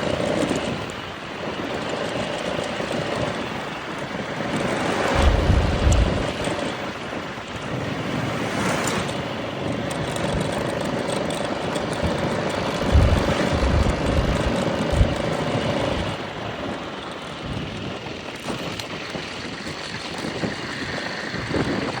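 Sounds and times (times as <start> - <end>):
distant engine drone: 0.0 - 17.6
steady outdoor rush: 0.0 - 22.0
wind buffeting microphone: 0.0 - 22.0.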